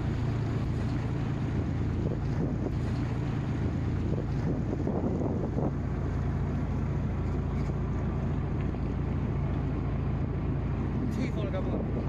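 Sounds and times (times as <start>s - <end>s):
wind buffeting microphone: 0.0s - 8.4s, 9.8s - 12.0s
boat engine humming: 0.0s - 12.0s
water rushing past hull: 0.0s - 12.0s.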